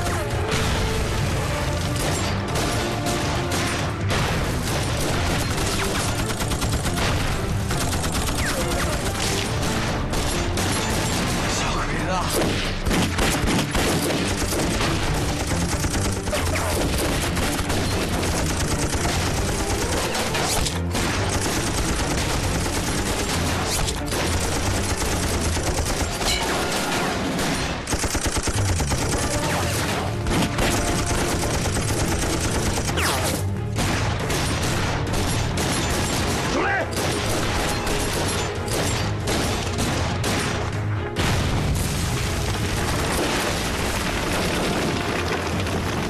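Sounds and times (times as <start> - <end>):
rifle pistol and machine-gun fire: 0.0 - 46.0.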